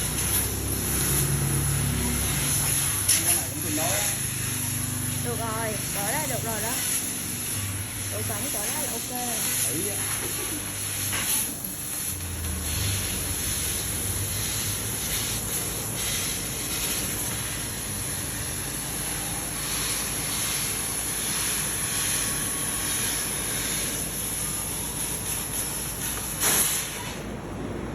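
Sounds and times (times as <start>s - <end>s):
cutting machine hissing: 0.0s - 27.2s.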